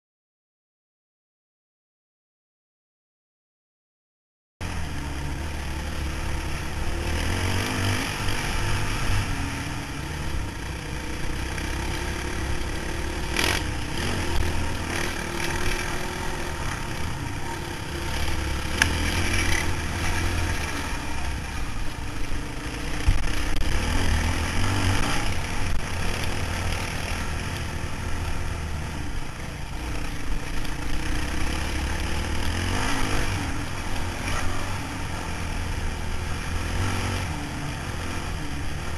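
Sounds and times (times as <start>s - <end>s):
motorcycle engine rumble: 4.6s - 38.9s.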